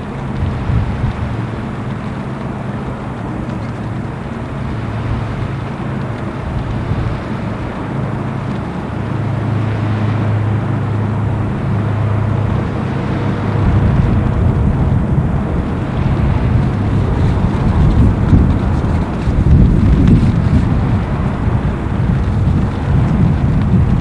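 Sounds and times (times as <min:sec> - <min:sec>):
heavy rain hiss: 0:00.0 - 0:24.0
ship machinery drone: 0:00.0 - 0:24.0.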